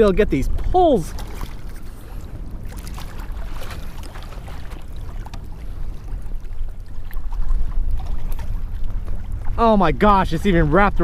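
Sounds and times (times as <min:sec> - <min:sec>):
water lapping at kayak hull: 0:00.0 - 0:11.0
wind rumbling on microphone: 0:00.0 - 0:11.0.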